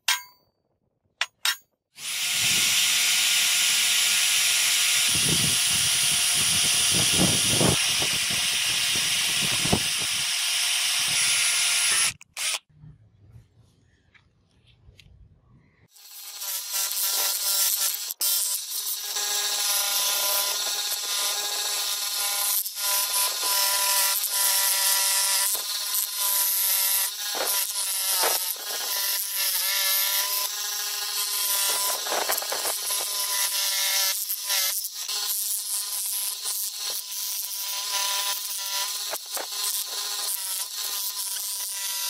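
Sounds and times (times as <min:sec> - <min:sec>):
scroll saw cutting metal: 0:01.2 - 0:12.7, 0:15.9 - 0:42.0.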